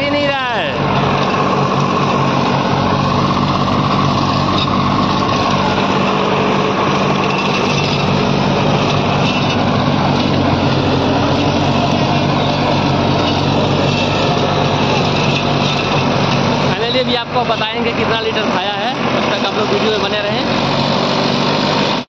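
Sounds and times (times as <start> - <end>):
tractor diesel engine running: 0.0 - 22.0
rotavator blades churning soil: 0.2 - 22.0.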